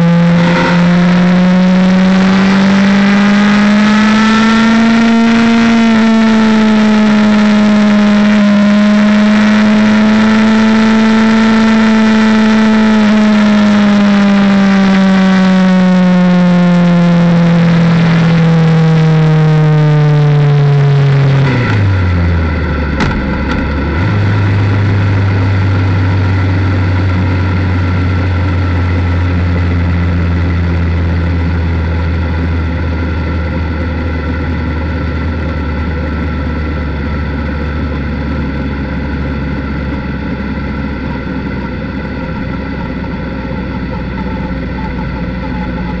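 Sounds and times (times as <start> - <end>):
motorcycle engine: 0.0 - 46.0.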